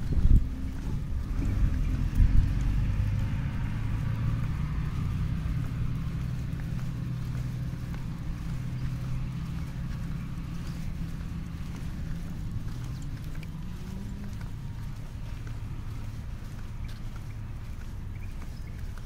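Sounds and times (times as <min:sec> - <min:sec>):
vehicle engine hum: 0:00.0 - 0:19.0
wind rumble on microphone: 0:00.0 - 0:19.0.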